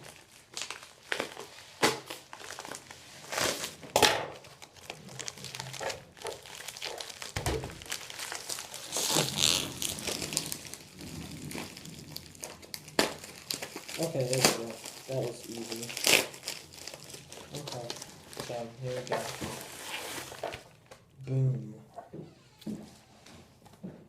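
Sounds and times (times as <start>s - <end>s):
package wrapping crinkling: 0.0s - 21.1s.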